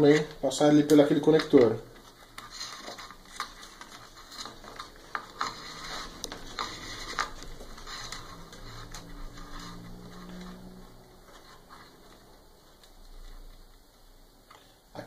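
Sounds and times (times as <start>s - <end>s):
cable clicking and rustling: 0.0s - 14.6s.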